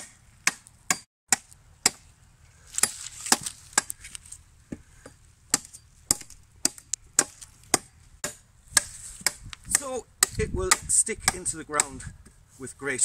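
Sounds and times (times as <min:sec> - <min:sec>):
blade chopping wooden pole: 0:00.0 - 0:02.0, 0:02.8 - 0:04.0, 0:04.7 - 0:12.4.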